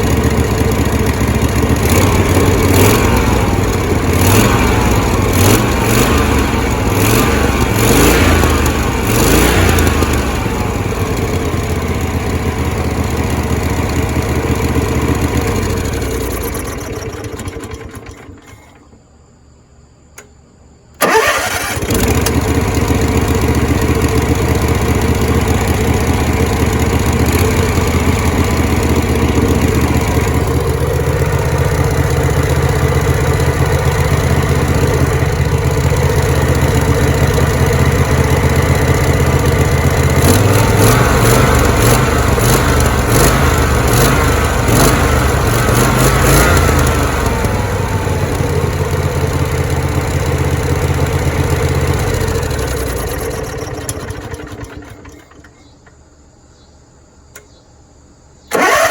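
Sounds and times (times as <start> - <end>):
floor buffer engine running: 0.0 - 18.9, 21.8 - 55.6.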